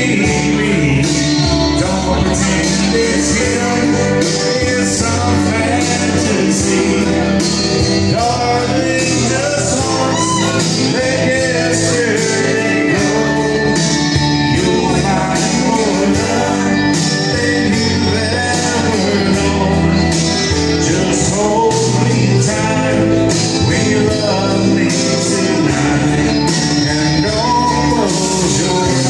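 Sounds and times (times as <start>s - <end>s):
amplified backing music with guitar: 0.0s - 29.0s
man singing into a microphone: 0.0s - 29.0s.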